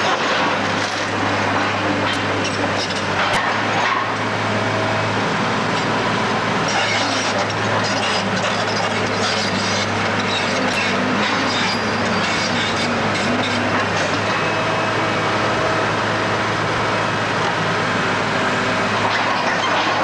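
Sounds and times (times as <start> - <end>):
demolition machinery engine hum: 0.0 - 20.0.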